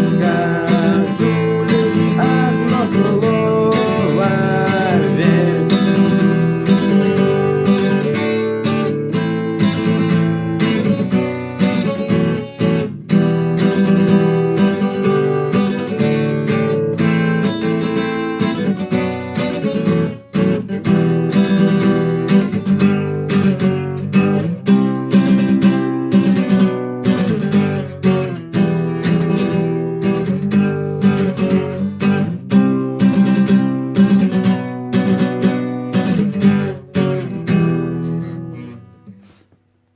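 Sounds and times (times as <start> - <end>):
acoustic guitar strumming: 0.0 - 39.6.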